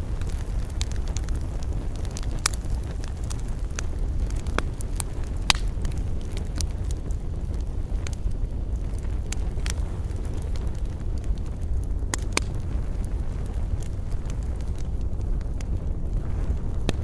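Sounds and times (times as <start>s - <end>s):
burning wood crackling and popping: 0.0s - 17.0s
fire low rumble: 0.0s - 17.0s.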